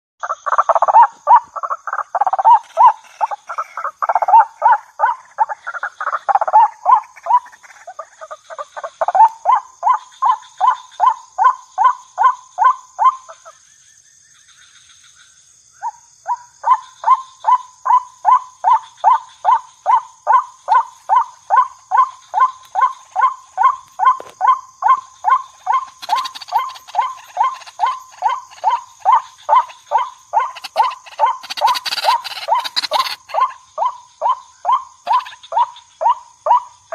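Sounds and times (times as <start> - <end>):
waterhen repeated calls: 0.2 - 12.3, 18.6 - 36.7.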